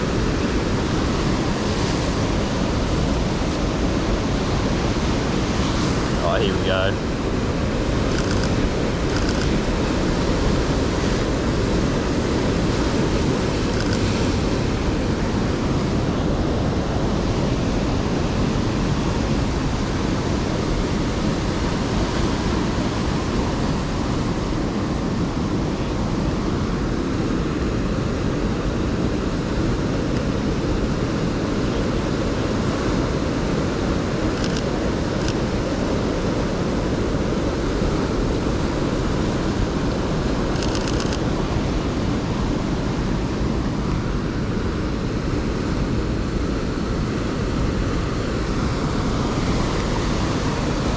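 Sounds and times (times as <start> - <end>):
wind on microphone: 0.0 - 50.9.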